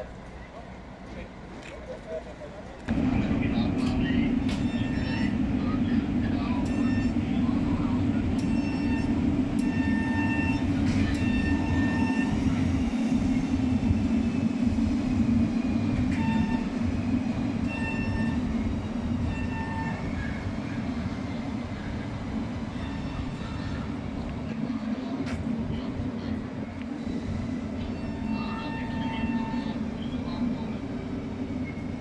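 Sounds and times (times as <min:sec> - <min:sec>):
tram electric hum: 0:00.0 - 0:32.0
tram moving along rails: 0:00.0 - 0:32.0.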